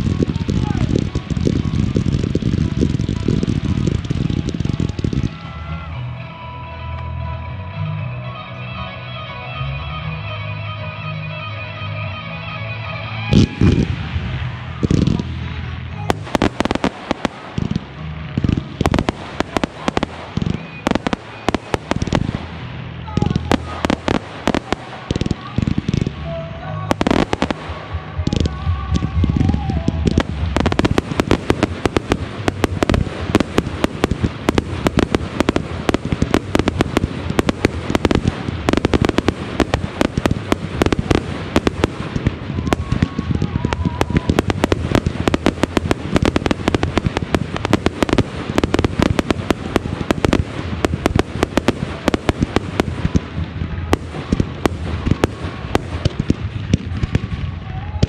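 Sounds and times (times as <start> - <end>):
fireworks bangs and crackles: 0.0 - 6.2, 13.0 - 58.0.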